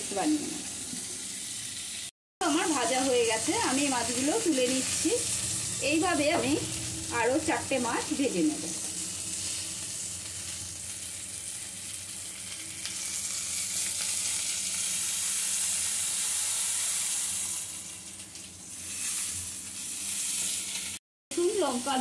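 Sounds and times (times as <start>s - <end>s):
fish sizzling in oil: 0.0s - 22.0s.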